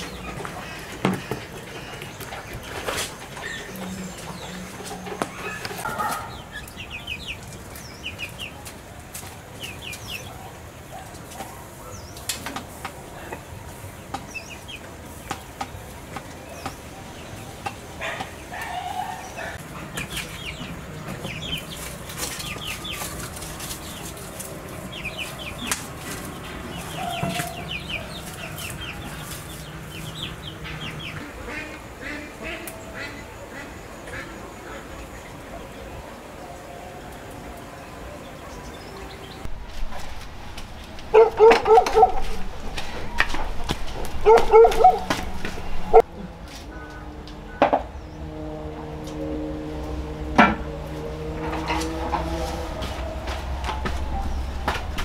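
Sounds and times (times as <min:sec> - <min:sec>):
chickens calling: 0:00.0 - 0:48.3, 0:48.9 - 0:55.0.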